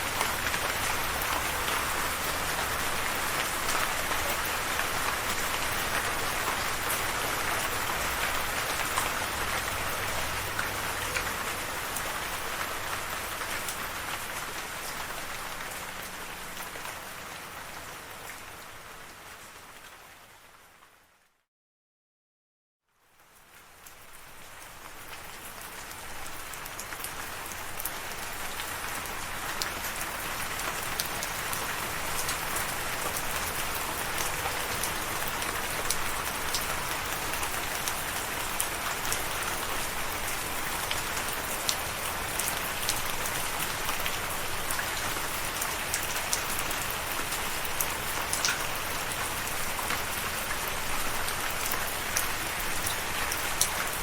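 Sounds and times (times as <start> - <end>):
steady rain falling: 0.0 - 21.3, 22.9 - 54.0.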